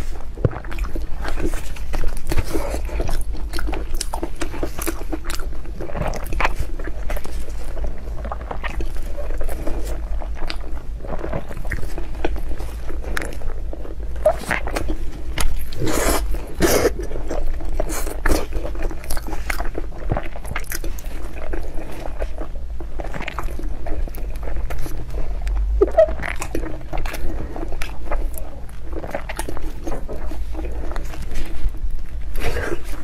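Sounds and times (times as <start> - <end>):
person biting and chewing: 0.0 - 33.0.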